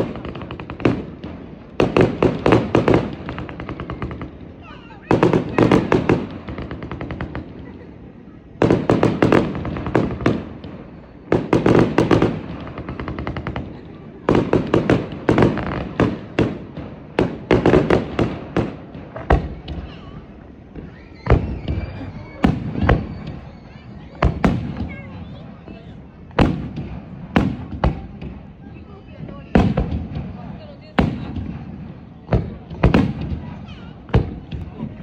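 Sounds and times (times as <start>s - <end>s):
fireworks bangs and crackles: 0.0s - 35.0s
fireworks booms: 0.0s - 35.0s.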